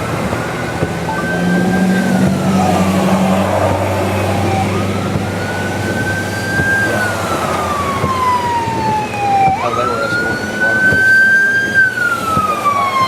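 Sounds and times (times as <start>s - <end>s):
siren wailing: 0.0s - 13.0s
vehicle engine hum: 0.0s - 13.0s.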